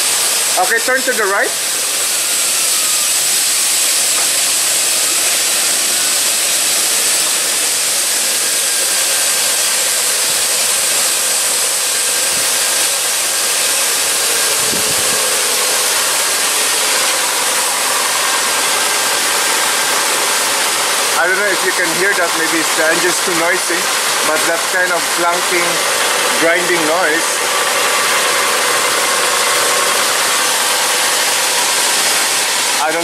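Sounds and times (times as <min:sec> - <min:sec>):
steady rushing drivetrain noise: 0:00.0 - 0:33.0.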